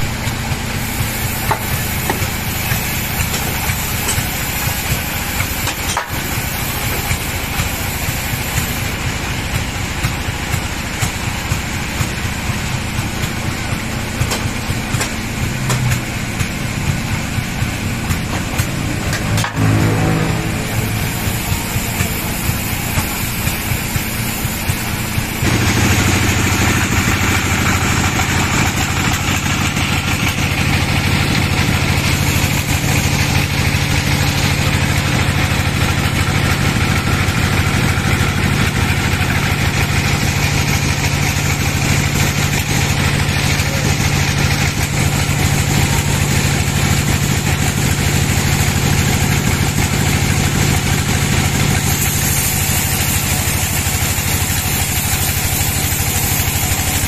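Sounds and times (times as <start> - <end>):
saw blade cutting wood: 0.0 - 9.0, 18.1 - 57.0
band sawmill machine hum: 0.0 - 57.0.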